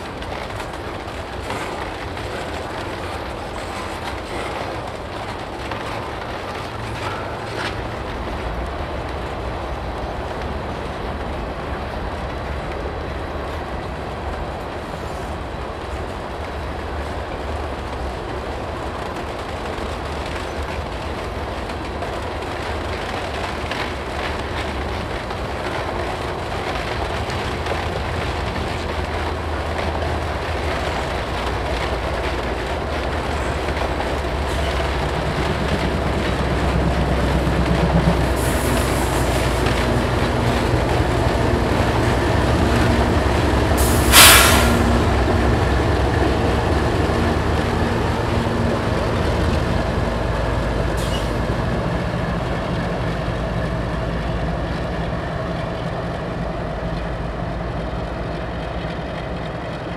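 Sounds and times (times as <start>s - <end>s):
diesel locomotive engine: 0.0s - 59.9s
wheels clicking over rail joints: 0.0s - 59.9s.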